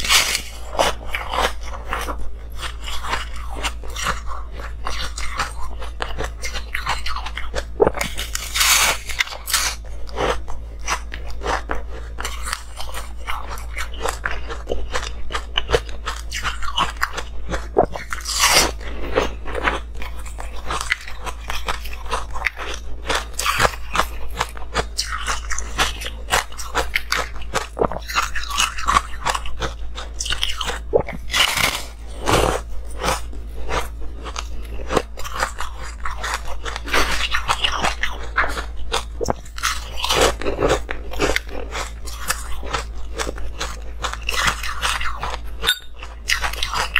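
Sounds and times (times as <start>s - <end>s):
crunching ice: 0.0s - 46.9s
low hum: 0.0s - 46.9s.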